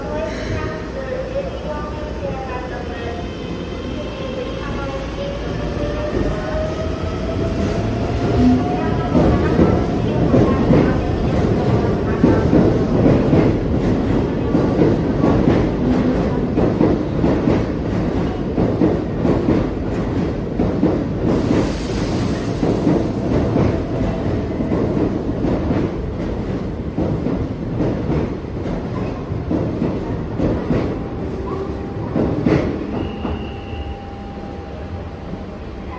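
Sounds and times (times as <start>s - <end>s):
train passing: 0.0s - 35.9s.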